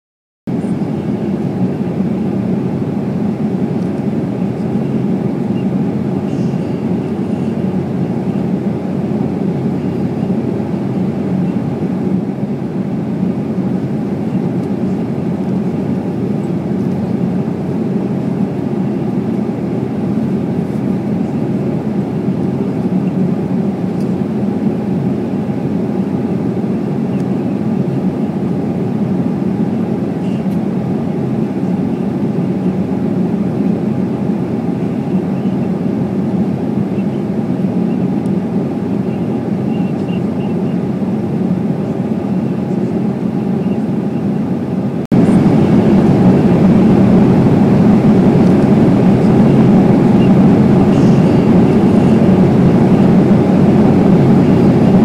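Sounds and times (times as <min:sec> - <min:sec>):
airliner cabin rumble: 0:00.5 - 0:55.0.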